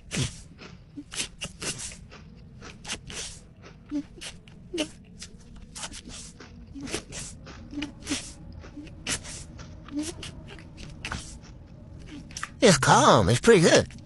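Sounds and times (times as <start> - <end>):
person chewing crunchy cookie: 0.0 - 12.6.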